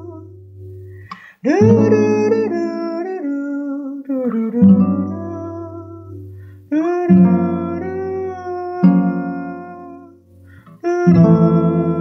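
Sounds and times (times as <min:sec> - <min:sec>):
guitar chords ringing: 0:00.0 - 0:12.0.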